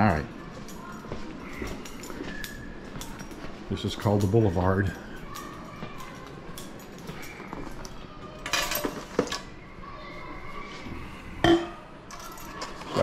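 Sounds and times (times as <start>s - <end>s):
light clinks: 0.6s - 9.5s, 11.4s - 13.0s.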